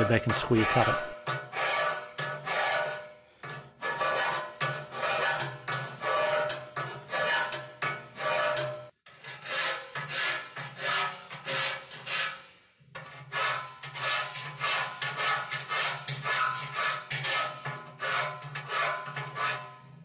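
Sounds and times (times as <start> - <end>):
file rasping on steel: 0.0 - 20.0.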